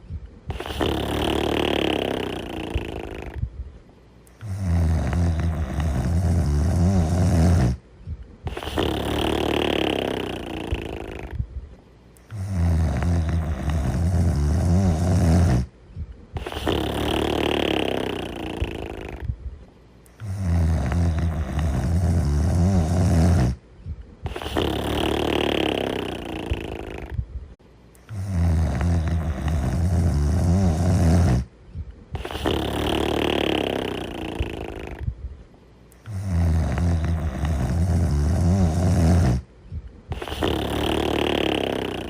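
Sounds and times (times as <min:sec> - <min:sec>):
low rattling snore: 0:00.5 - 0:03.5, 0:04.3 - 0:07.8, 0:08.4 - 0:11.4, 0:12.2 - 0:15.7, 0:16.4 - 0:19.3, 0:20.1 - 0:23.6, 0:24.2 - 0:27.2, 0:28.0 - 0:31.5, 0:32.1 - 0:35.1, 0:36.0 - 0:39.5, 0:40.1 - 0:42.0.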